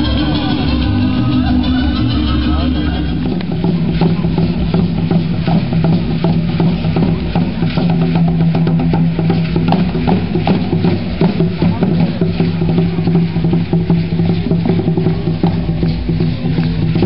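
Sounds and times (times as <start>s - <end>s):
hand drum beating: 0.0s - 17.0s.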